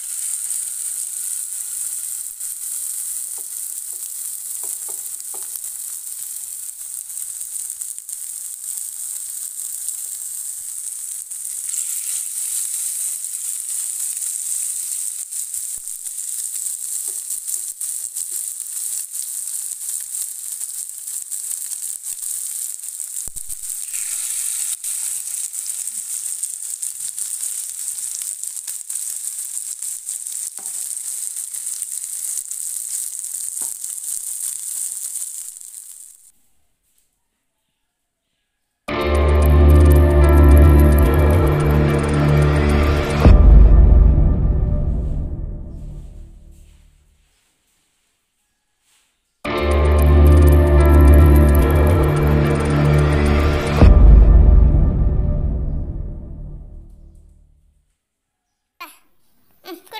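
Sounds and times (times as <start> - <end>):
patties sizzling in hot oil: 0.0 - 36.3, 38.9 - 47.4, 49.4 - 57.4, 59.6 - 59.9.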